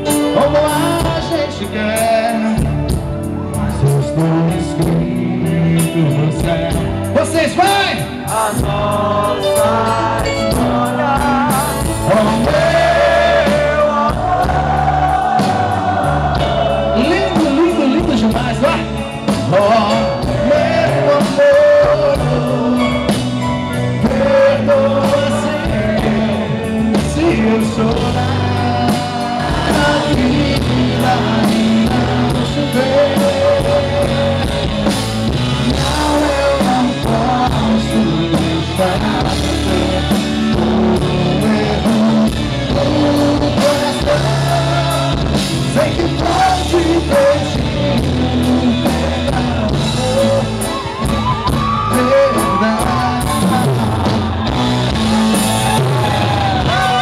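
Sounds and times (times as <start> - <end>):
gospel band playing live: 0.0 - 57.0
person singing: 8.0 - 57.0.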